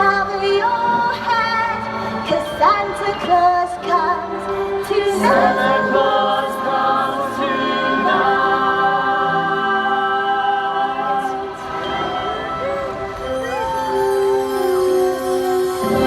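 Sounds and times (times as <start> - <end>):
several voices singing: 0.0 - 16.0
stage-show music: 0.0 - 16.0.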